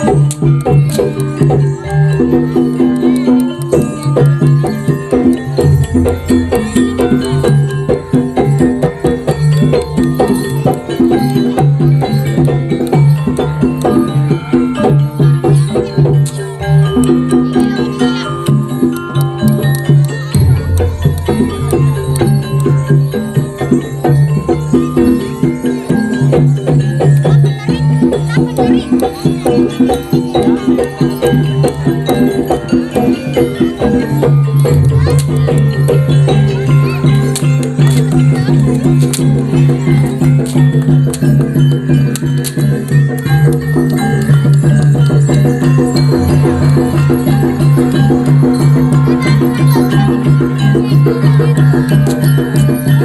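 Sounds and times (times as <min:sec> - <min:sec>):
percussion ensemble music: 0:00.0 - 0:53.0.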